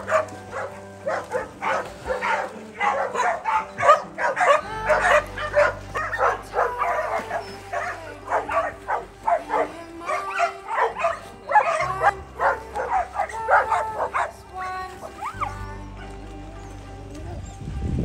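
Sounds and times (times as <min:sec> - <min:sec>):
dogs yipping and whining: 0:00.0 - 0:14.4, 0:15.0 - 0:17.6
dogs barking: 0:00.0 - 0:16.2.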